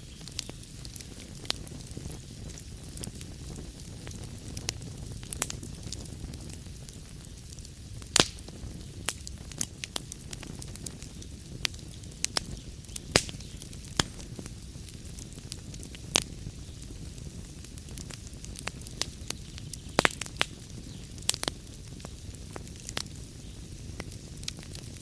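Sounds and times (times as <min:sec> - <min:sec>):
burning logs crackling and popping: 0:00.0 - 0:25.0
low rumble of flames: 0:00.0 - 0:25.0.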